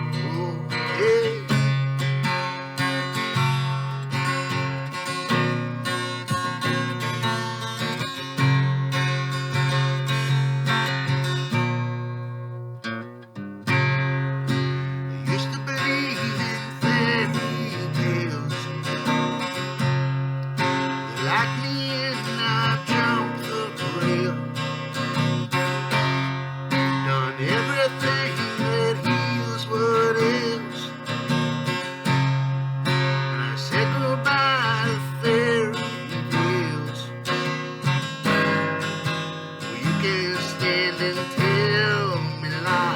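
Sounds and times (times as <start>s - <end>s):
acoustic guitar strumming: 0.0s - 42.9s.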